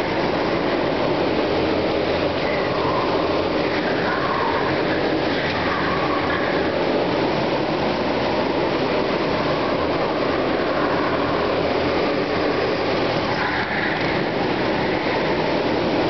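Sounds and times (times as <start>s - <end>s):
go-kart engines droning: 0.0s - 16.0s
karts passing close: 0.0s - 16.0s.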